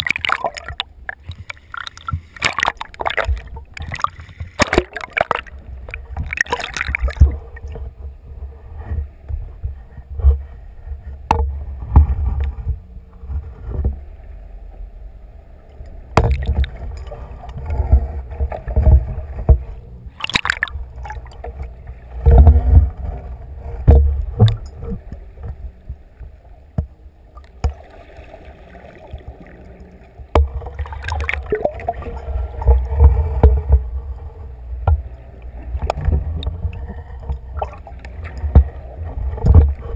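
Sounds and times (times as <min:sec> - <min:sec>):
underwater rumbling: 0:00.0 - 0:39.9.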